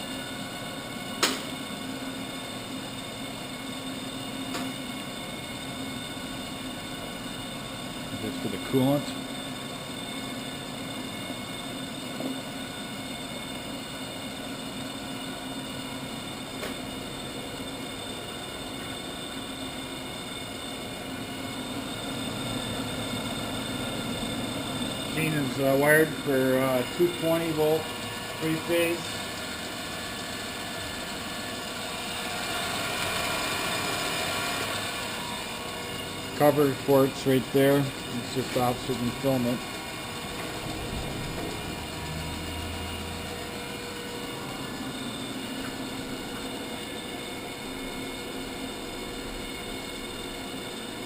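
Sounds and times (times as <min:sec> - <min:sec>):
grinder humming: 0:00.0 - 0:51.0.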